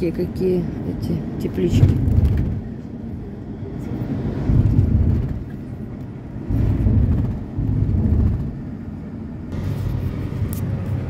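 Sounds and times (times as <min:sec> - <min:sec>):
minibus road and engine rumble: 0:00.0 - 0:11.0.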